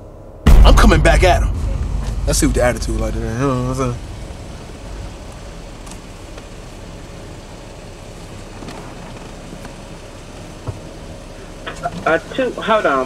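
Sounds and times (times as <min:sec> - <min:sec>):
car idling from inside: 0:01.2 - 0:13.0.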